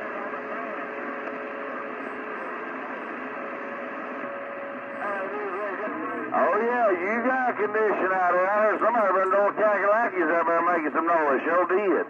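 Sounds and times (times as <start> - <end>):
garbled distant radio voices: 0.0 - 12.0
radio static hiss: 0.0 - 12.0.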